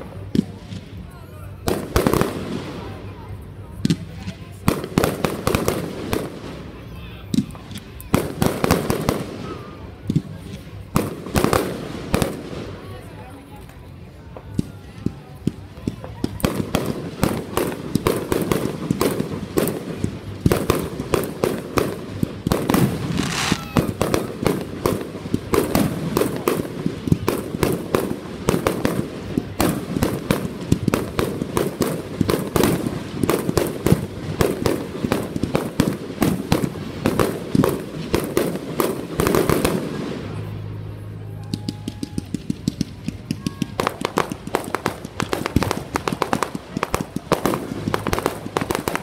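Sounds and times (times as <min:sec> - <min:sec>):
fireworks popping and crackling: 0:00.0 - 0:49.0.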